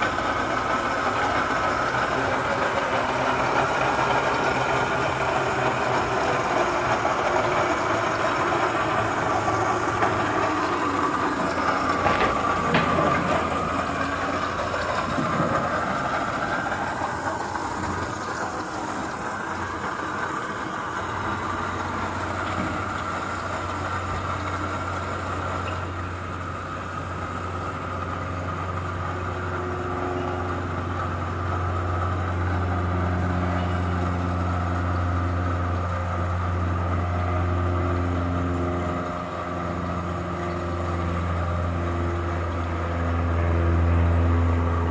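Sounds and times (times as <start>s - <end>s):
electric tug humming: 0.0s - 44.9s.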